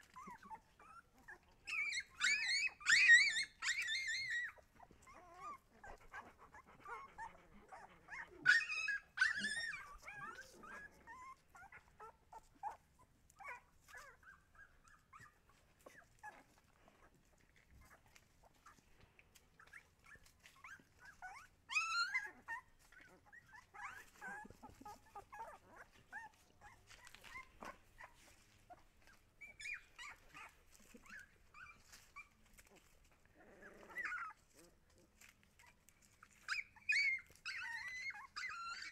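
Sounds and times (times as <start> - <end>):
puppies whimpering and squeaking: 0.0 - 38.9.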